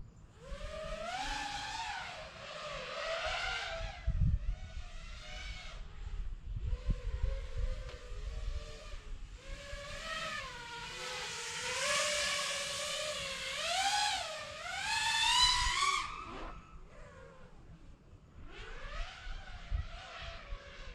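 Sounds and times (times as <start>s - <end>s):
drone motors whining: 0.3s - 20.9s.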